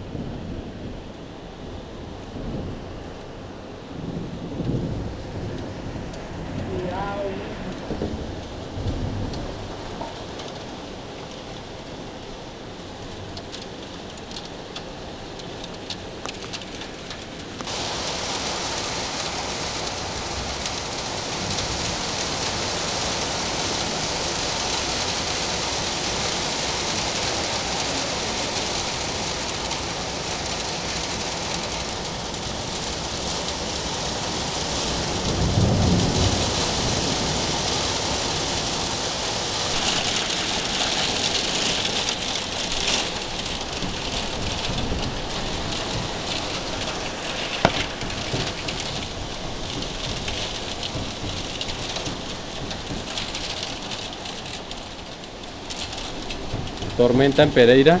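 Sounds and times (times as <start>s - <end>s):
low rumble of thunder: 0.0s - 13.3s, 17.6s - 58.0s
heavy rain: 0.0s - 58.0s
raindrops ticking on surfaces: 0.0s - 58.0s.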